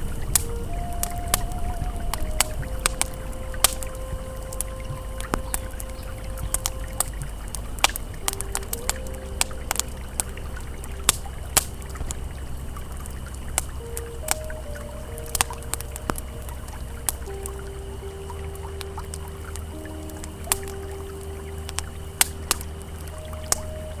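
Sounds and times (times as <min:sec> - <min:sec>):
campfire crackling and popping: 0:00.0 - 0:24.0
flowing river water: 0:00.0 - 0:24.0
soft ambient music tones: 0:00.0 - 0:24.0.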